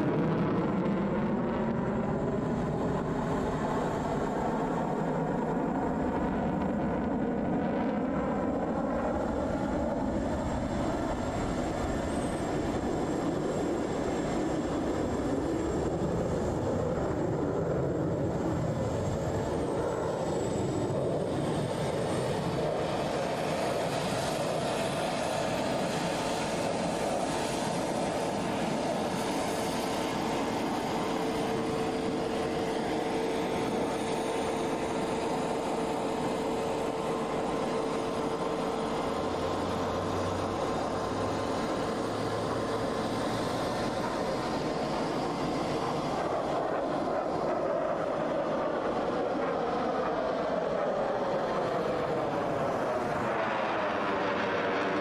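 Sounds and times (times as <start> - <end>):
distant jet roar: 10.2 - 55.0.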